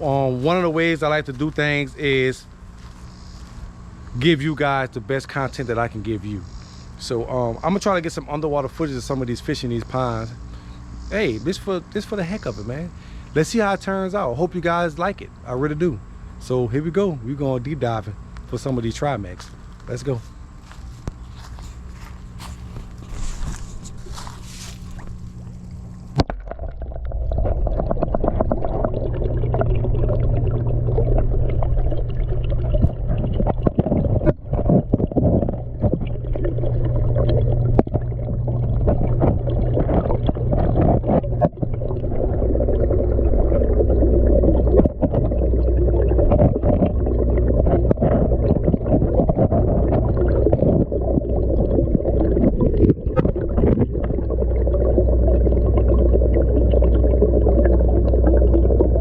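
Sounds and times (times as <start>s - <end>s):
rumble of moving water: 0.0s - 59.0s
underwater low hum: 0.0s - 59.0s.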